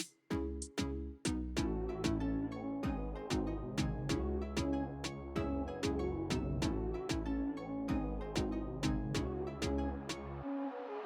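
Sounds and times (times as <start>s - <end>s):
background music with beat: 0.0s - 10.3s.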